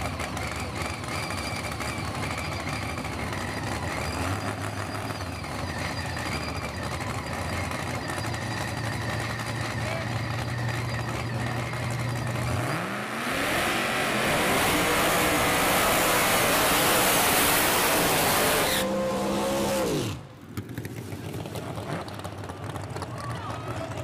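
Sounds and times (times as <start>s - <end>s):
drag car engine revving: 0.0s - 23.1s.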